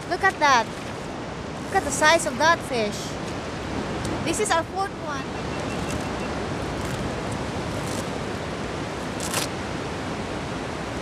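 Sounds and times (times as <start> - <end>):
ocean surf: 0.0 - 11.0
wind noise: 0.0 - 11.0.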